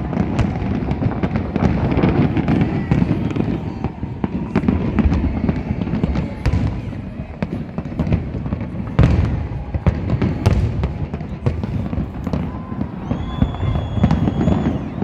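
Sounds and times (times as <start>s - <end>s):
fireworks crackles and bangs: 0.0s - 15.0s.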